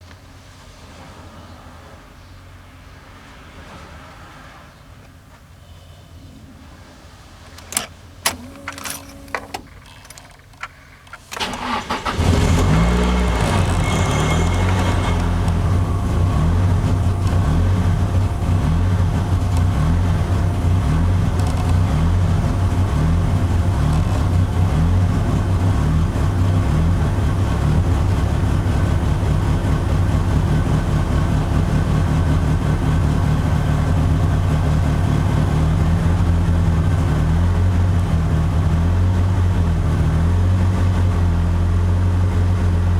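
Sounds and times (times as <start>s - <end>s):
car engine idling: 7.5s - 42.9s.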